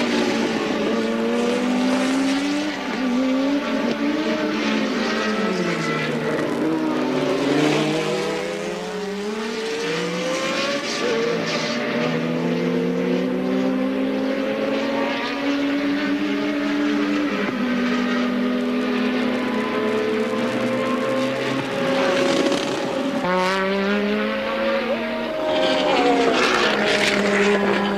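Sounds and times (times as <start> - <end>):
racing car engines revving: 0.0 - 27.9.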